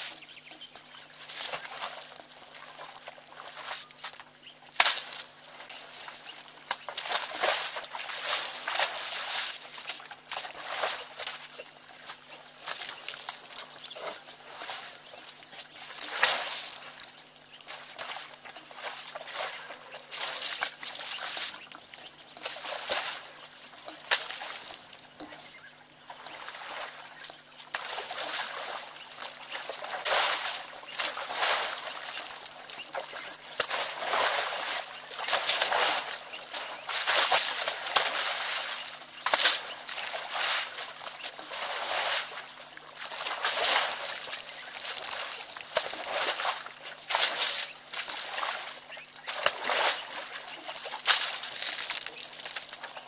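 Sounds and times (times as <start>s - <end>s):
mud and water splashing: 0.0s - 53.0s.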